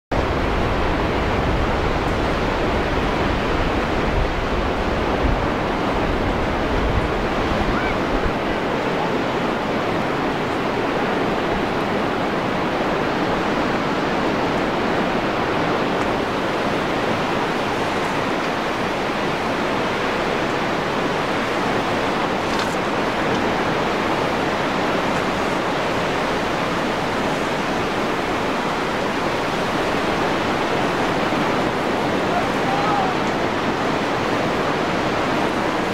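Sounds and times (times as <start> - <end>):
low wind rumble on microphone: 0.1 - 35.9
ocean surf breaking: 0.1 - 35.9.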